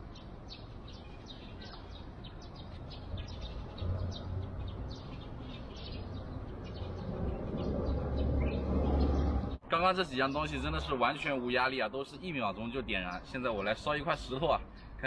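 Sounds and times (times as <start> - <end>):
small birds chirping: 0.0 - 11.3, 12.0 - 15.0.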